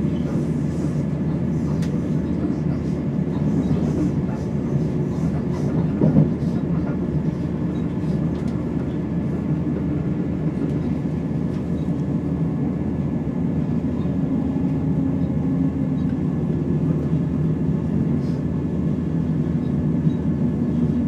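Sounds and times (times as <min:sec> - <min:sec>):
train engine rumble: 0:00.0 - 0:21.0.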